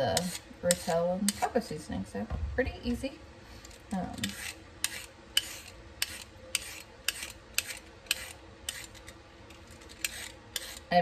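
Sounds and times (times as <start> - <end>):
peeler scraping carrots: 0.0 - 1.7, 3.6 - 11.0.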